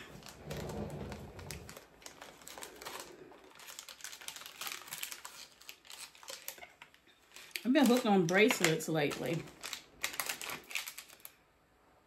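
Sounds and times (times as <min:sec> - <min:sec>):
packaging crinkling: 0:00.0 - 0:11.4.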